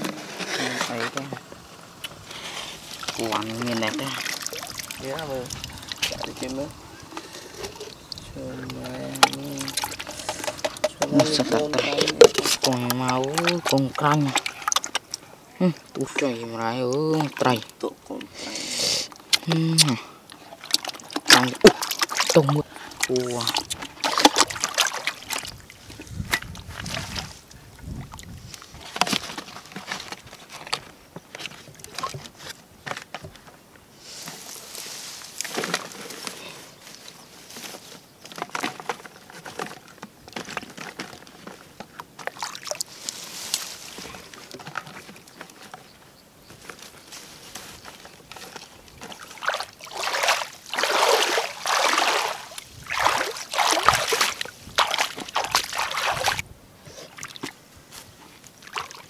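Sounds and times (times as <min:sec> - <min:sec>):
muddy water sloshing and splashing: 0:00.0 - 0:18.4, 0:19.1 - 0:33.5, 0:34.3 - 0:59.0.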